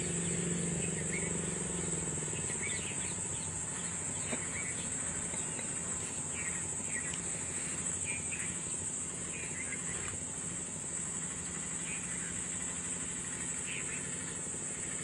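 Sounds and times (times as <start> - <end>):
bird chirping: 0.0 - 10.1, 11.3 - 12.7, 13.4 - 14.5
high-pitched insect drone: 0.0 - 15.0.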